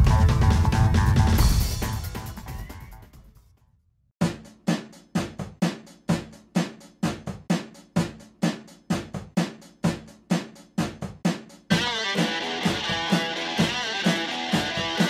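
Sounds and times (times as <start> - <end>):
drum kit kick and snare beat: 0.0 - 3.4, 4.2 - 15.0.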